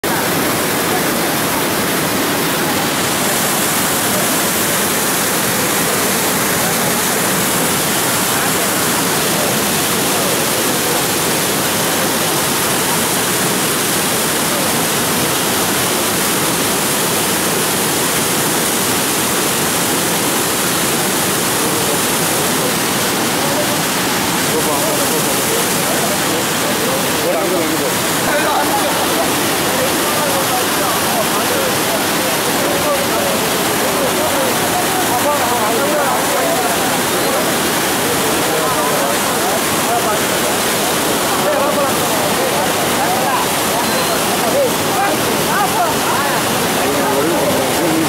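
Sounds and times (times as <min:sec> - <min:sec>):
water rushing through sluice gate: 0:00.0 - 0:48.0.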